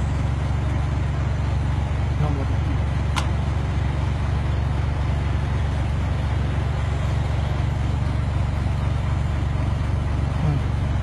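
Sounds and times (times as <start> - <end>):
low vehicle rumble: 0.0 - 11.0
road noise: 0.0 - 11.0.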